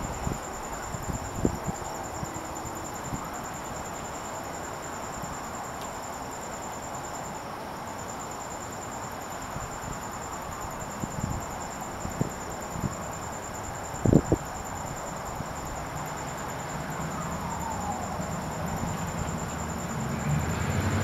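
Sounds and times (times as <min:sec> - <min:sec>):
night insects trilling: 0:00.0 - 0:21.0
steady outdoor hiss: 0:00.0 - 0:21.0.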